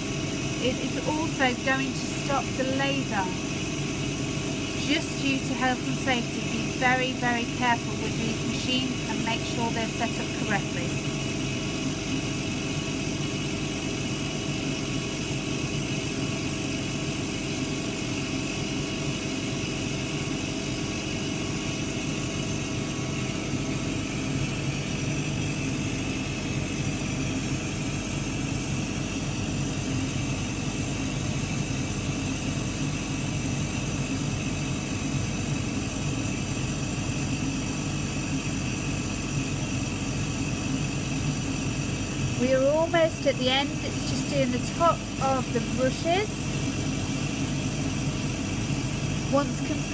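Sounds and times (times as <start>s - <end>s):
hum of fans and motors: 0.0s - 49.9s.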